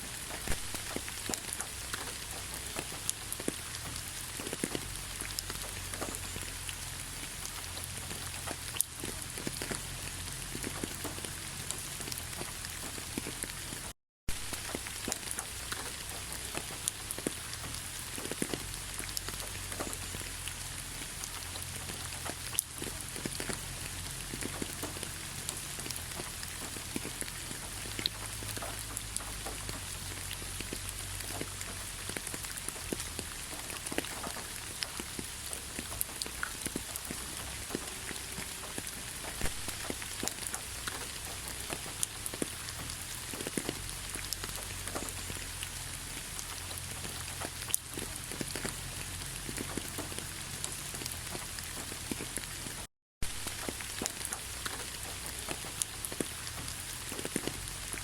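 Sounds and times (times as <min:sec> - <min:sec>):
steady rain hiss: 0:00.0 - 0:58.0
raindrops clicking: 0:00.1 - 0:58.0.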